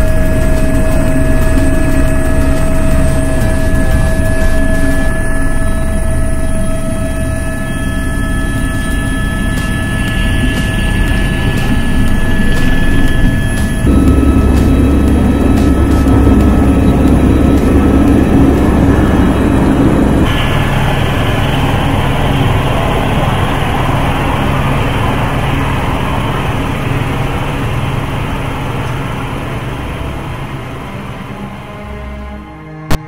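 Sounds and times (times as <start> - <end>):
helicopter engine and rotor noise: 0.0 - 32.4.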